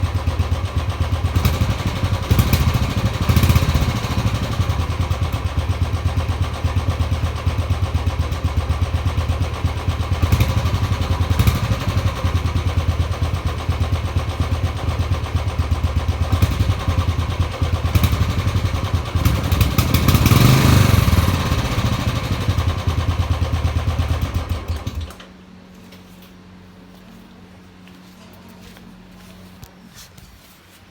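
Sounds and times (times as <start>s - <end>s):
motorcycle engine running: 0.0s - 25.2s.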